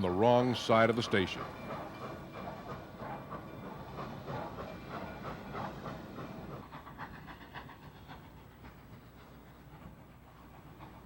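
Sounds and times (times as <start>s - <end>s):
steam train chuffing: 0.0s - 11.0s.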